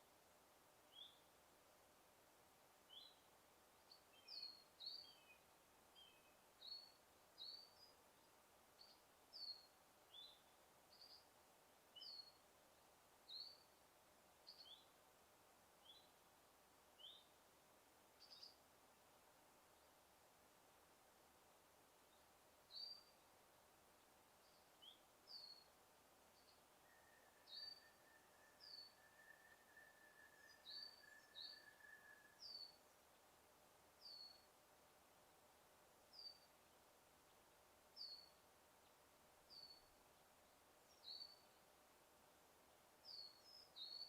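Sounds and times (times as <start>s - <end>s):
forest ambience hiss: 0.0s - 44.0s.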